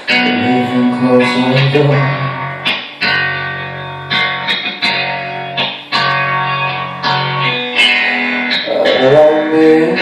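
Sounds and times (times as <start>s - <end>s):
strummed guitar chords: 0.0s - 10.0s.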